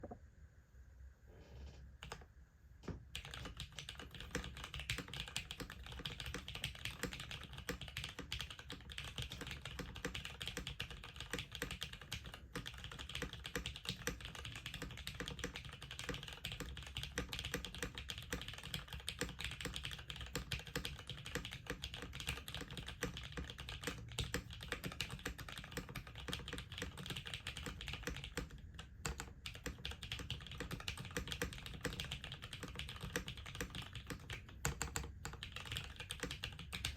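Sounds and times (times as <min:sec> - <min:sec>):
fast typing on mechanical keyboard: 0:02.0 - 0:02.2, 0:03.1 - 0:36.9.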